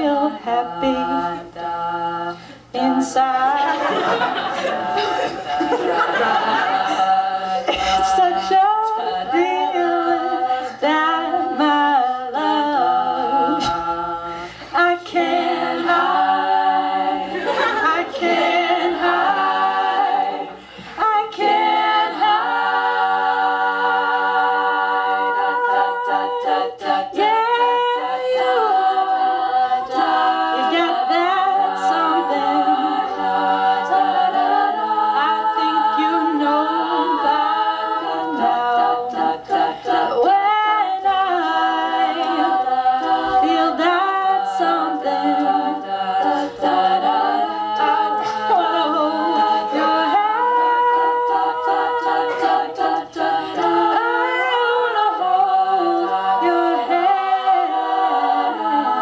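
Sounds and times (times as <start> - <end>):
vocal group singing in harmony: 0.0 - 59.0.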